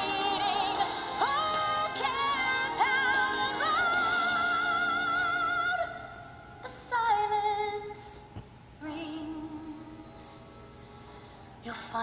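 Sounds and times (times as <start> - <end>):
woman singing with vibrato: 0.0 - 10.5
soft musical accompaniment: 0.0 - 12.0.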